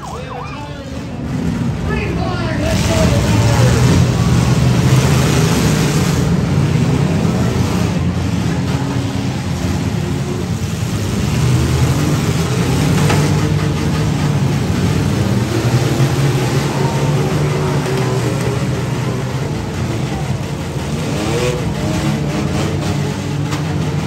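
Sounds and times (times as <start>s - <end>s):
car engines revving together: 2.6s - 24.0s.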